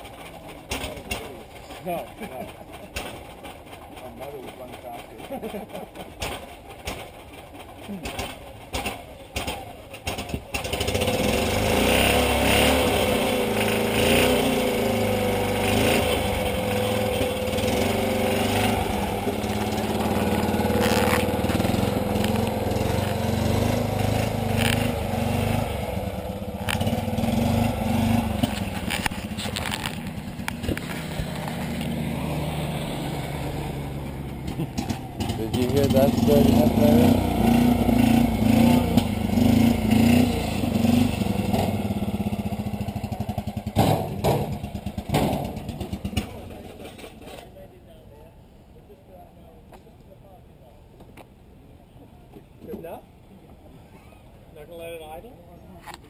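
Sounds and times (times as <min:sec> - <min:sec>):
small engine starting and running: 0:00.0 - 0:47.1.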